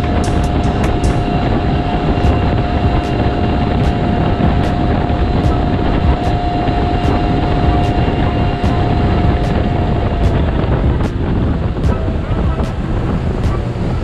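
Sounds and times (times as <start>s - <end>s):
outboard motor whining: 0.0s - 14.0s
rush of wind and water: 0.0s - 14.0s.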